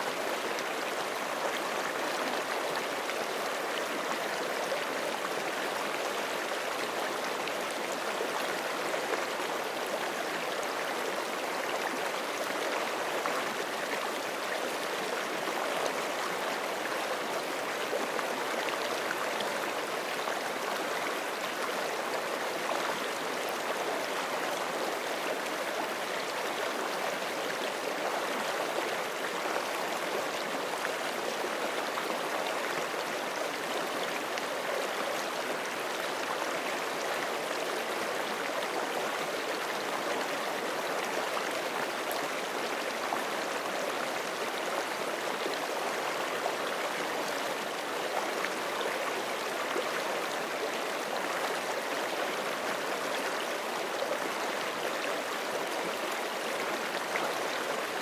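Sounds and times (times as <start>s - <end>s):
creek flowing over rocks: 0.0s - 58.0s.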